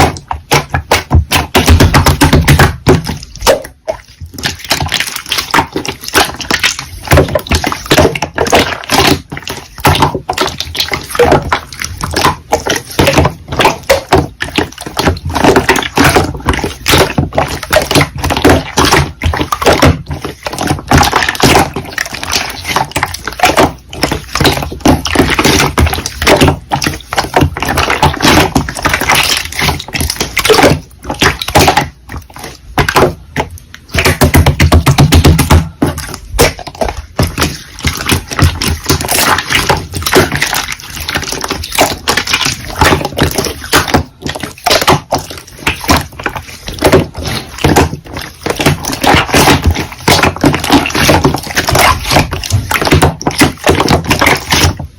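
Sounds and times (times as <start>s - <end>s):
slime squished by hand: 0.0s - 54.9s.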